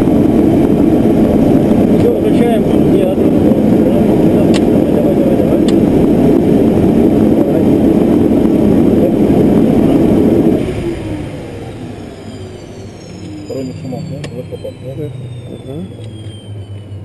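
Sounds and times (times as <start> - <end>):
turbine spooling down whine: 0.0 - 17.0
turboprop engines idling: 0.0 - 17.0.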